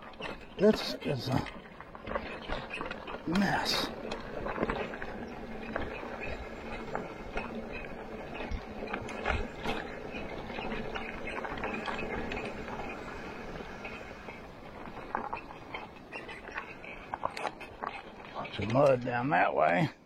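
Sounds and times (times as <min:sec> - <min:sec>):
wheels rolling on dirt trail: 0:00.0 - 0:20.0.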